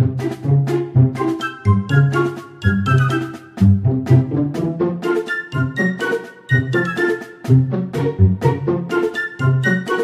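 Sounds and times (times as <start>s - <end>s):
bouncy instrumental music: 0.0s - 10.0s.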